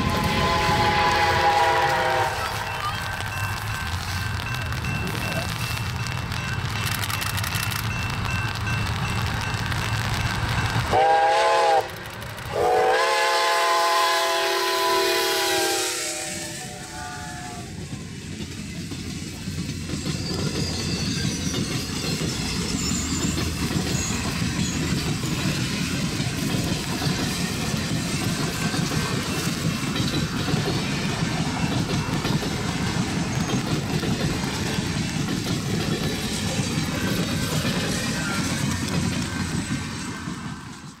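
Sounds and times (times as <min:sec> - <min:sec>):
train wheels clattering on rails: 0:00.0 - 0:14.7, 0:17.5 - 0:41.0.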